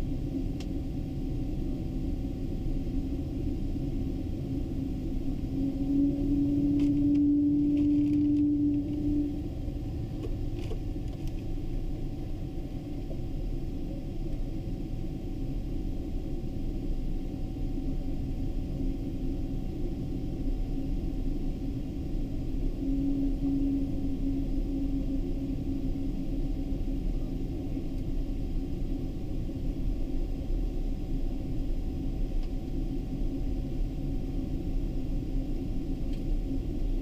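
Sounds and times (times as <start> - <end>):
aircraft engines idling rumble: 0.0 - 37.0
steady hum: 0.0 - 37.0.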